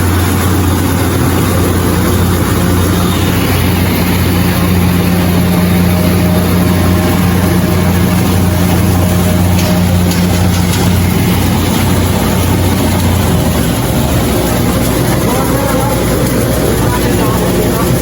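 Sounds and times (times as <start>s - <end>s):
constant rushing noise: 0.0s - 18.0s
rice mill machine humming: 0.0s - 18.0s.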